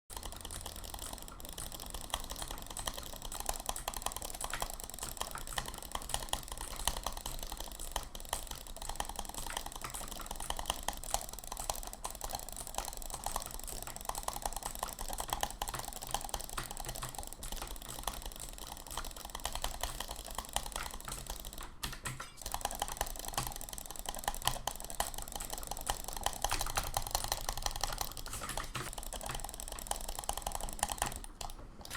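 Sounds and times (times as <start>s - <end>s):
rapid clicking: 0.0s - 31.9s.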